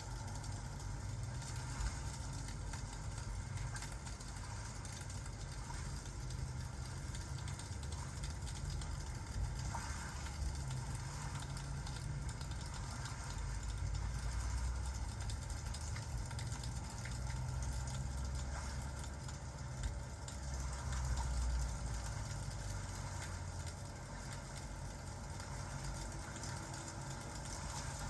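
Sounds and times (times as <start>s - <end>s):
constant low rumble: 0.0s - 28.0s
steady rain: 0.0s - 28.0s
wood fire crackling: 0.0s - 28.0s.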